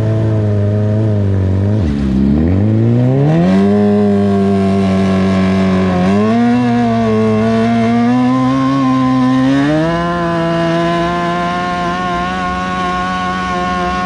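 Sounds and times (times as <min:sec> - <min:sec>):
tractor engine at high revs: 0:00.0 - 0:14.0.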